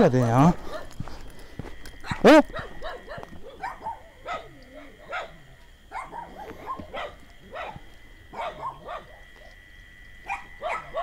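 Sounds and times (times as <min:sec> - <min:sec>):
dog barking: 0:00.2 - 0:01.0, 0:02.0 - 0:09.6, 0:10.2 - 0:11.0.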